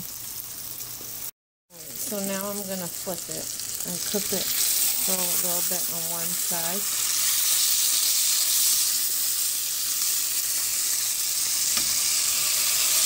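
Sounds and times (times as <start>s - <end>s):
steak sizzling in a skillet: 0.0s - 13.0s.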